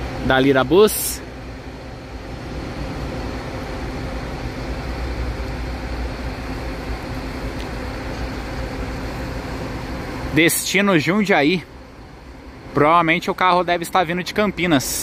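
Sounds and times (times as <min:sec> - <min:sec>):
coach diesel engine rumbling: 0:00.0 - 0:15.0
faint steady hum: 0:00.0 - 0:15.0.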